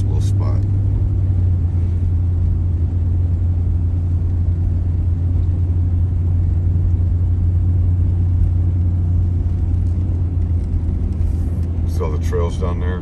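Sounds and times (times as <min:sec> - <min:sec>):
van engine drone: 0:00.0 - 0:13.0.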